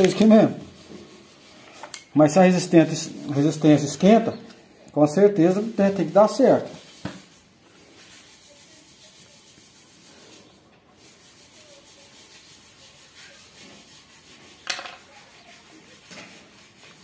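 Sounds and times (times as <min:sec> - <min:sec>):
rubbing and handling materials: 0:00.0 - 0:04.4, 0:05.0 - 0:17.0.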